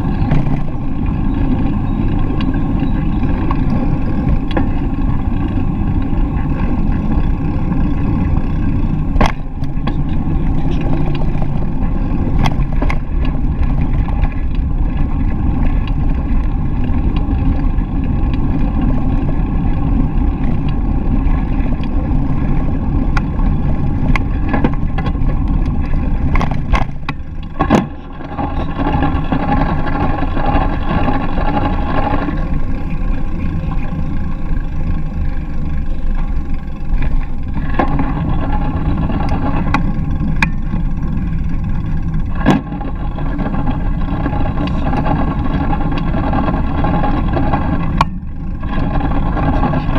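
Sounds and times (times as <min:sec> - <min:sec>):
bicycle tyres rolling on pavement: 0:00.0 - 0:49.9
wind on microphone: 0:00.0 - 0:49.9.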